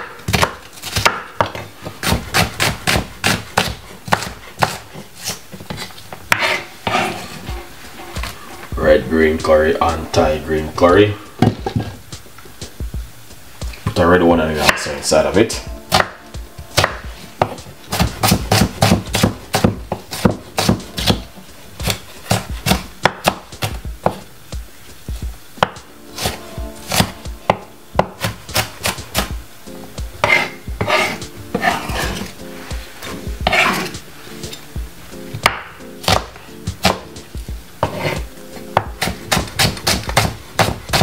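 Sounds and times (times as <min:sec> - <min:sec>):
faint background music: 0:00.0 - 0:41.0.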